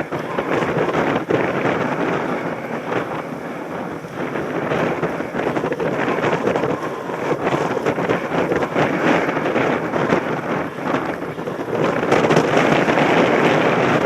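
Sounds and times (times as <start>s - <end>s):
bike rattling on rough track: 0.0s - 14.0s
wind buffeting microphone: 0.0s - 14.0s.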